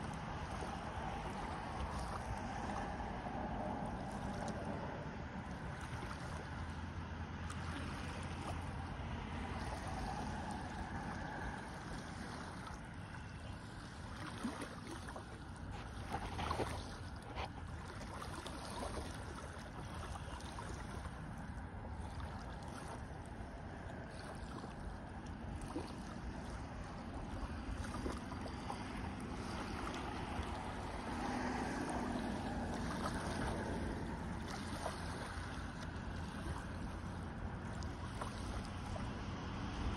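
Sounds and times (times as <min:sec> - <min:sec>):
small waves lapping at shore: 0:00.0 - 0:39.9
water splashes: 0:00.0 - 0:39.9.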